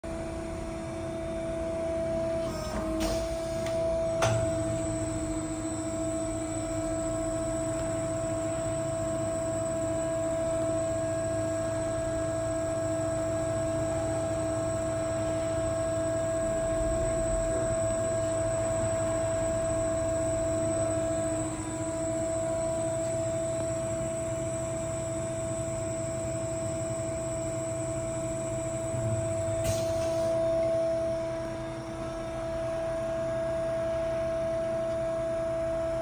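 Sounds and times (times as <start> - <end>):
machine hum with constant whine: 0.0 - 36.0.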